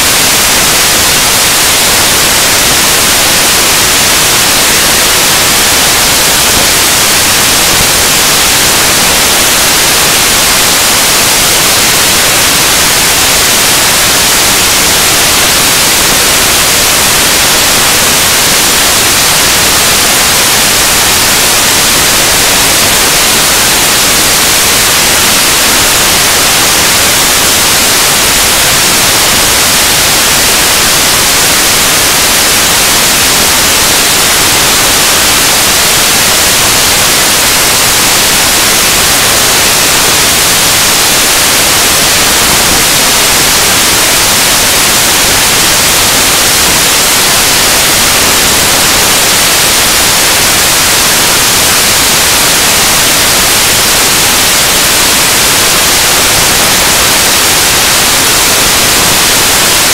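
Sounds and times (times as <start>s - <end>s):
static hiss: 0.0s - 59.9s.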